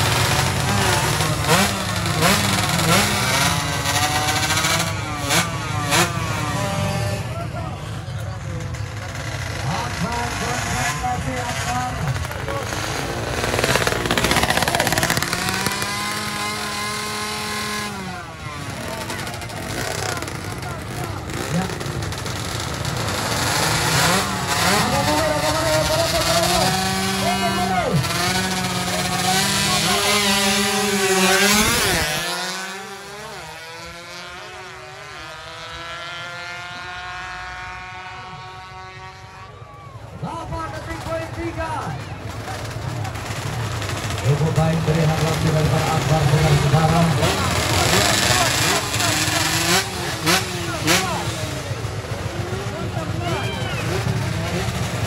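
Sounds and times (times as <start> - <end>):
motorcycle engine revving: 0.0 - 39.5, 40.1 - 55.0.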